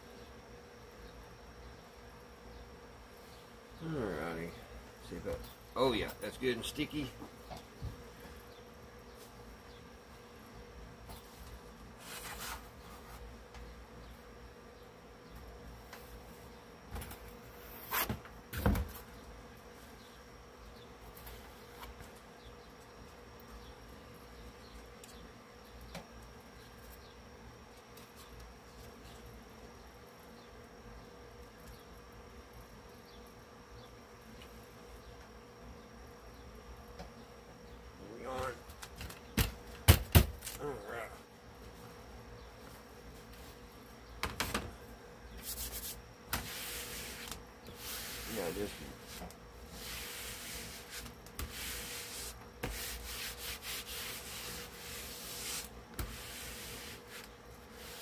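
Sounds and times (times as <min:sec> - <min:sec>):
steady buzzing hum: 0:00.0 - 0:58.0.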